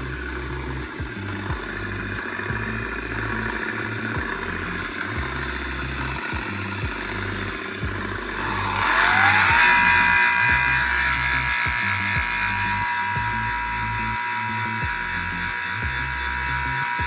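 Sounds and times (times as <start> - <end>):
electric motor with mechanical noise: 0.0 - 17.0
low pulsing rumble: 0.0 - 17.0
music: 0.0 - 17.0
rising tone: 0.0 - 17.0.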